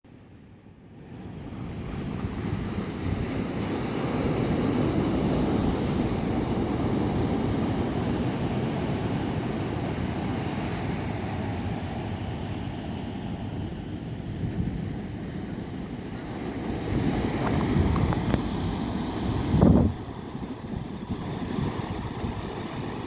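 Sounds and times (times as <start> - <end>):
ocean waves washing ashore: 0.1 - 23.0
wind rumbling on microphone: 1.0 - 23.0.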